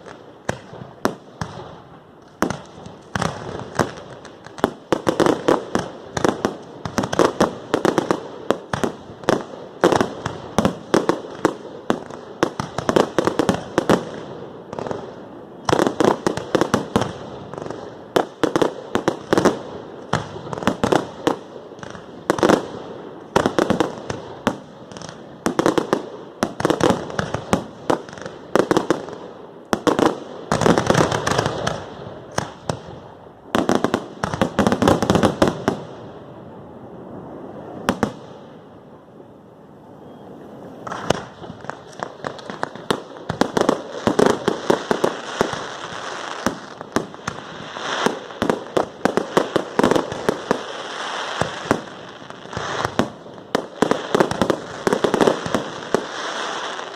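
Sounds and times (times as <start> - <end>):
fireworks bangs and crackling: 0.0 - 39.1, 40.3 - 56.9.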